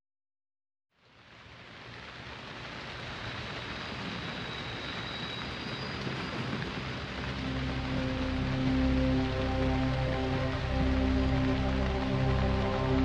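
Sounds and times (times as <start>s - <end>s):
steady rain falling: 0.9s - 13.0s.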